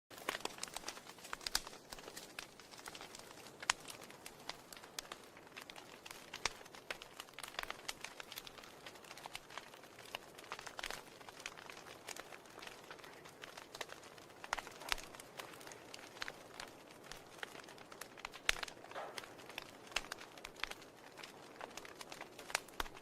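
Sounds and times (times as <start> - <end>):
fire crackling and popping: 0.1 - 23.0.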